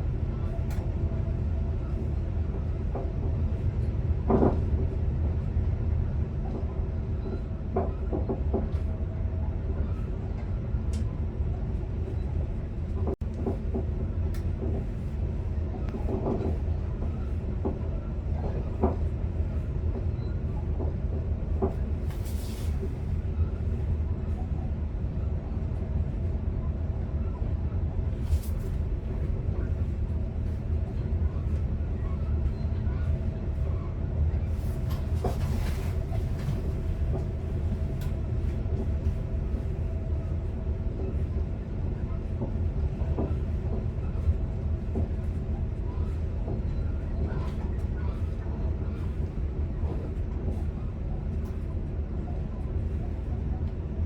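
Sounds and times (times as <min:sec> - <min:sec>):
electric train low rumble: 0:00.0 - 0:54.0.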